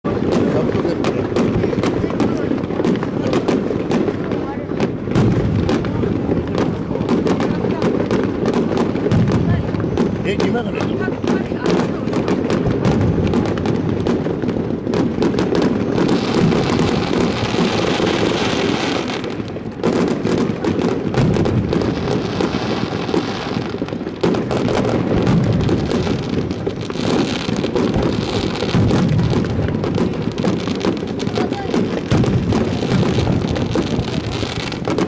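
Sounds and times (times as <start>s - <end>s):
fireworks booming: 0.0s - 35.0s
fireworks crackling: 0.0s - 35.0s
fireworks sharp cracks: 0.0s - 35.0s.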